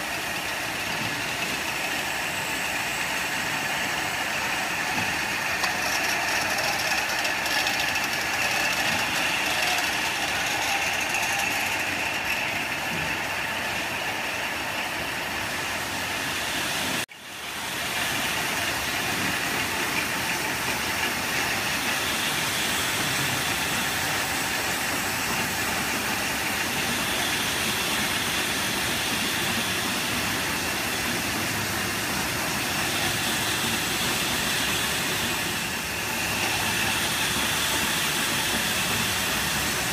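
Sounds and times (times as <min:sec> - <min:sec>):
bottling line machinery running: 0:00.0 - 0:39.9.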